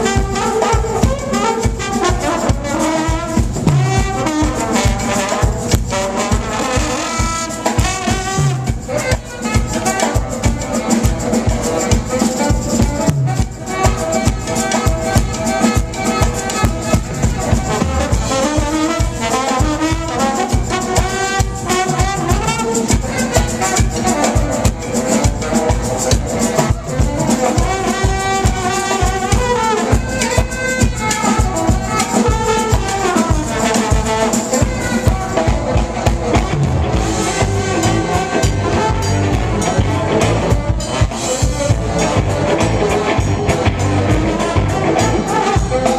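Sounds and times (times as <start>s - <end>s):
jazzy band with horns: 0.0s - 45.9s
steady drum beat: 0.0s - 45.9s.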